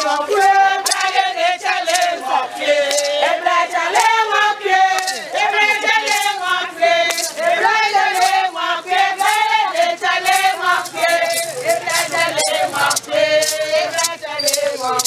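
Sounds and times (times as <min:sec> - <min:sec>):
gourd rattles shaken: 0:00.0 - 0:15.0
women singing in chorus: 0:00.0 - 0:15.0.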